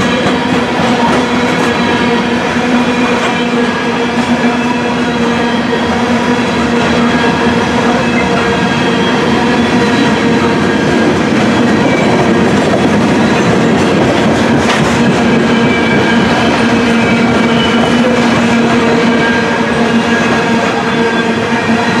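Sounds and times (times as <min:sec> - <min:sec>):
steel wheels rolling on rail: 0:00.0 - 0:22.0.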